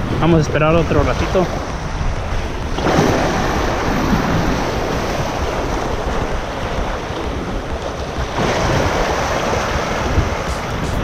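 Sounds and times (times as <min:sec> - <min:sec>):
small waves splashing: 0:00.0 - 0:11.0
wind buffeting microphone: 0:00.0 - 0:11.0.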